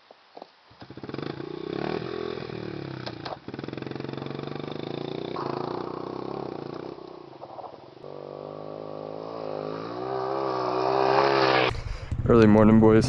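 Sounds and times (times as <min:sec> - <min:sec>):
pit bike engine revving: 0:00.8 - 0:13.0.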